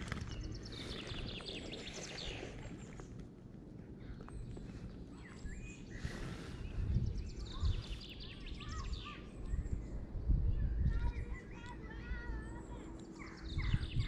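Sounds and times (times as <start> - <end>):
small birds chirping: 0.0 - 3.2, 4.0 - 14.0.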